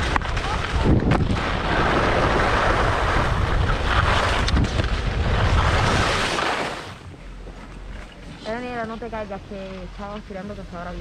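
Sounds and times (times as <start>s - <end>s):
wind rushing over microphone: 0.0s - 9.3s.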